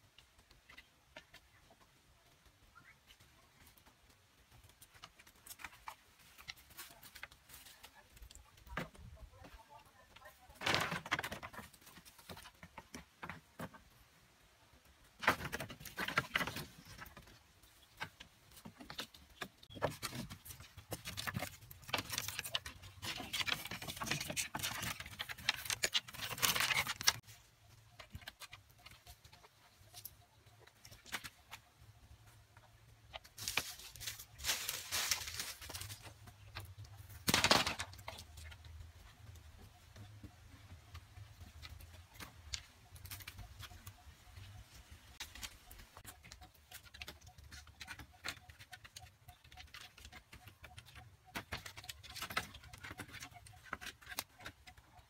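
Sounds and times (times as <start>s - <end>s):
bamboo and wooden poles clattering: 0.0s - 55.0s.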